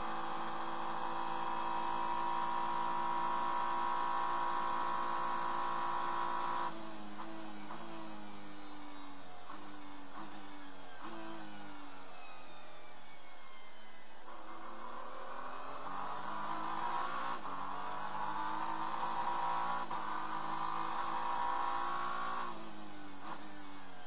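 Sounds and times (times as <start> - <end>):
racing car engine at speed: 0.0 - 24.0.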